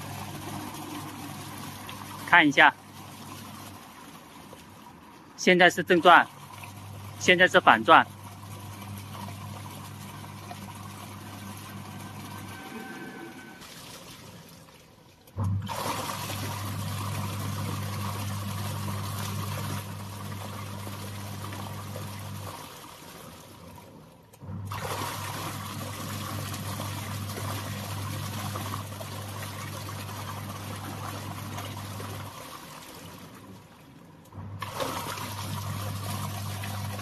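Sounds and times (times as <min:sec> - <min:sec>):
washing machine motor humming: 0:00.0 - 0:14.4, 0:15.2 - 0:37.0
water churning: 0:00.0 - 0:37.0.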